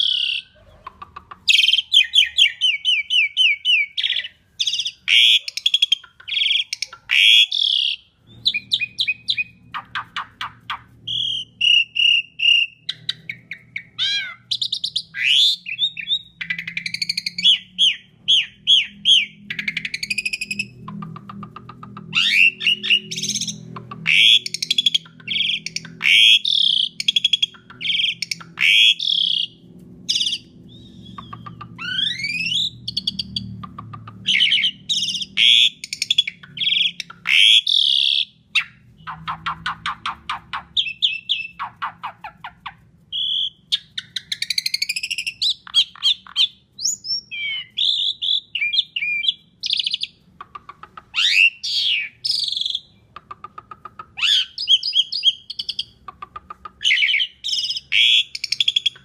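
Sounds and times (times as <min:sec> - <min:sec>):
low steady hum: 0:00.0 - 0:53.2
starling singing: 0:00.0 - 0:59.0.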